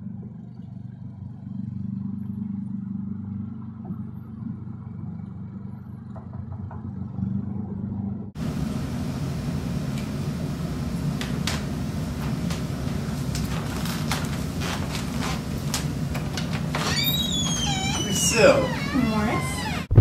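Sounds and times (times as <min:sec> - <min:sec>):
low mechanical rumble with hum: 0:00.0 - 0:20.0.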